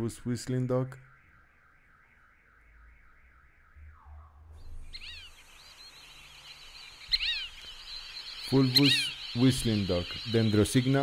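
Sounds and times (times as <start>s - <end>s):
duck whistled calls: 1.0s - 11.0s.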